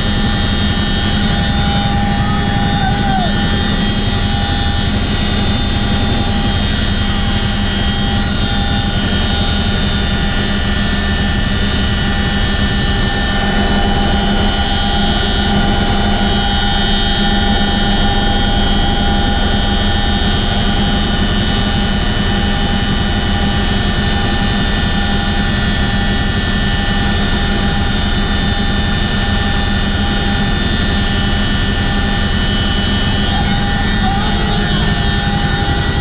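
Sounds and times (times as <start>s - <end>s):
constant whine: 0.0s - 36.0s
helicopter cabin drone: 0.0s - 36.0s.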